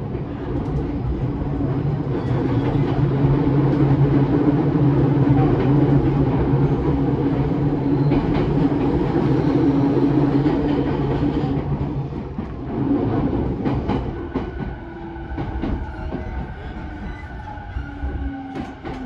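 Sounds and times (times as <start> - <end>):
train motors and wheels humming: 0.0 - 19.0.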